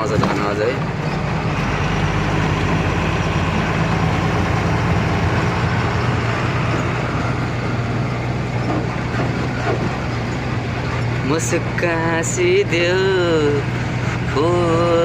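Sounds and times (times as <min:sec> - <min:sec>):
road noise: 0:00.0 - 0:15.0
truck engine droning: 0:00.0 - 0:15.0.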